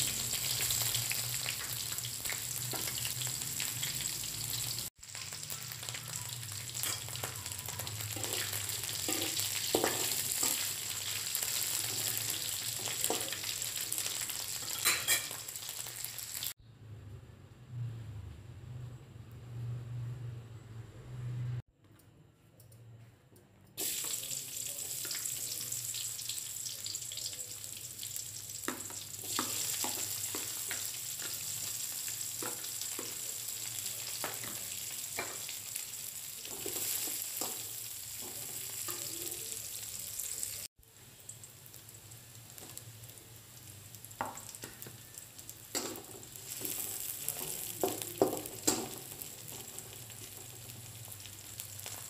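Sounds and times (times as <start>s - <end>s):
food sizzling in hot oil: 0.0s - 16.6s, 23.8s - 52.0s.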